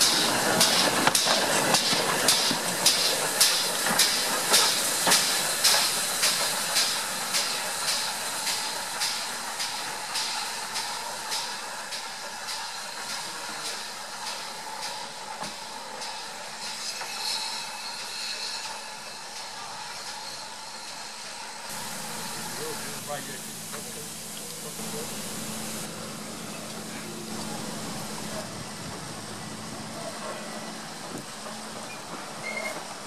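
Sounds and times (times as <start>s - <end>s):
steam locomotive chuffing: 0.0s - 33.0s.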